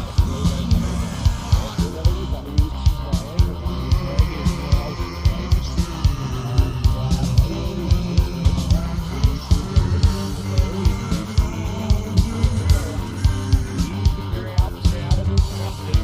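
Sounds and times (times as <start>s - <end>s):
rock song with guitar and drums: 0.0s - 16.0s.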